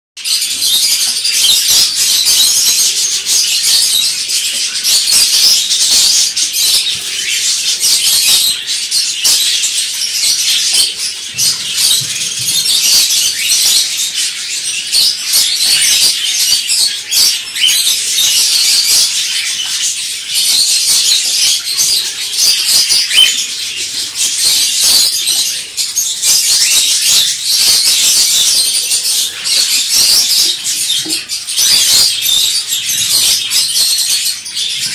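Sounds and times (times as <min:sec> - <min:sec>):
songbirds chirping: 0:00.2 - 0:34.9.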